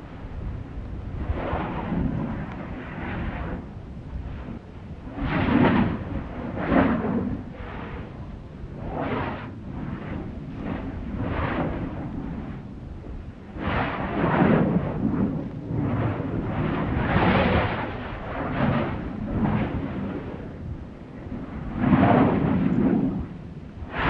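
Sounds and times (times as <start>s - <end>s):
volcano rumbling gas bursts: 0.0s - 24.0s.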